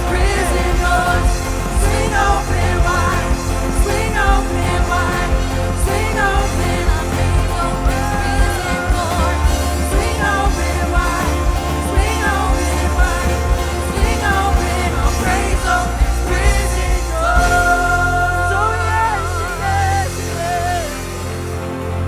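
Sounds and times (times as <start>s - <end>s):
lead singer singing: 0.0s - 21.9s
worship band playing: 0.0s - 22.0s.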